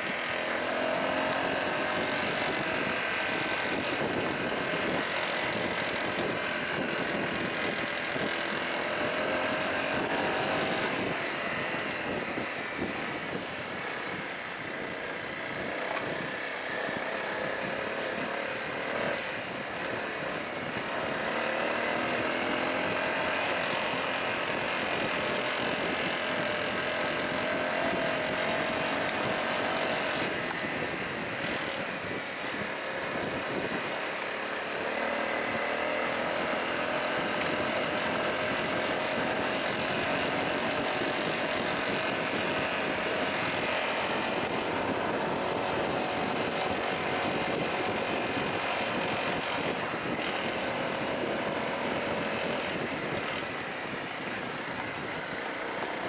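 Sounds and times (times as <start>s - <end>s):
motorcycle engine running: 0.0s - 56.0s
tyre and wind noise: 0.0s - 56.0s.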